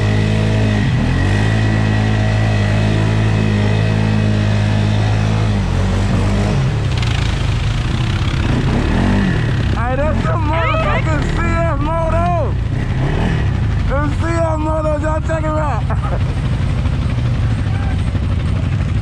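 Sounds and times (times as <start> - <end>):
off-road vehicle engine: 0.0 - 19.0.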